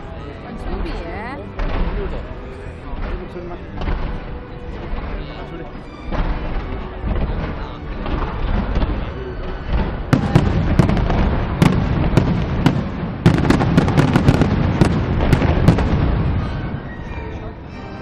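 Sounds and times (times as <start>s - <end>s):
fireworks bangs and crackles: 0.0s - 17.4s.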